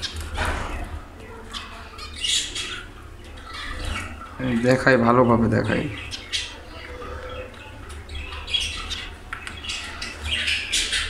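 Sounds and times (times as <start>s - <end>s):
small birds chirping and squawking: 0.0s - 11.0s.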